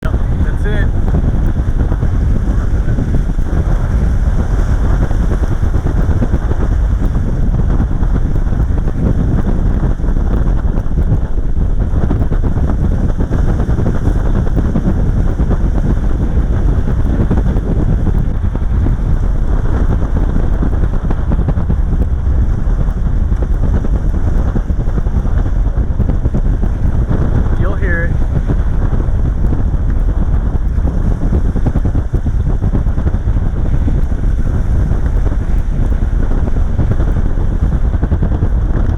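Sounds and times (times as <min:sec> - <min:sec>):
rocket engines crackling: 0:00.0 - 0:38.9
rocket engines deep rumble: 0:00.0 - 0:38.9.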